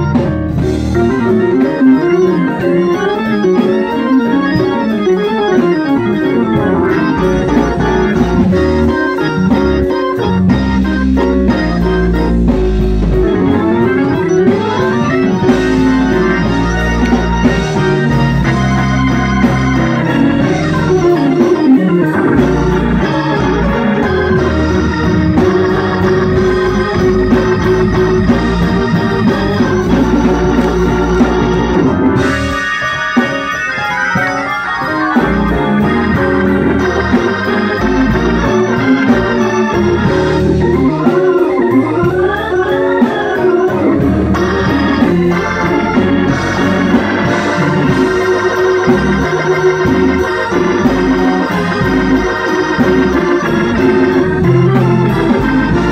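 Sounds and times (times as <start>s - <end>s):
electric organ playing gospel: 0.0s - 55.9s
ticking beat: 0.0s - 55.9s.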